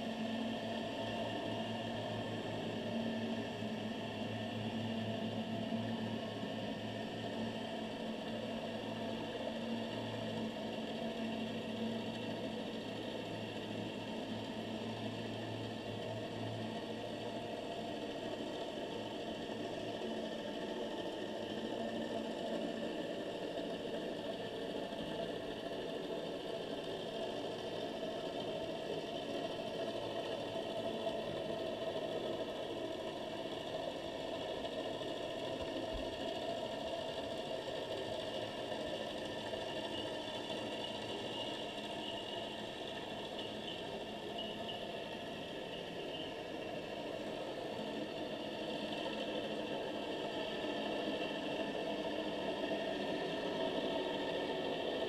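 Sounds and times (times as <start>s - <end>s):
continuous underwater mechanical hum: 0.0s - 55.0s.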